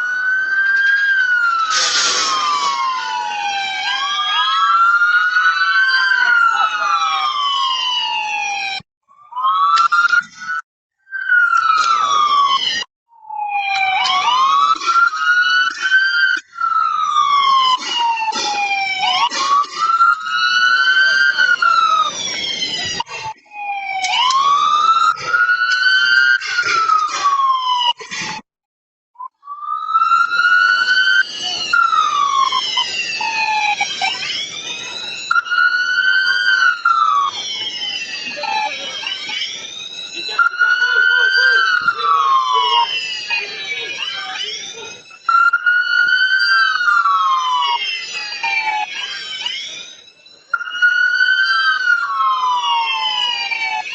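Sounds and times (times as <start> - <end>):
police siren wailing: 0.0 - 28.5, 29.2 - 53.9.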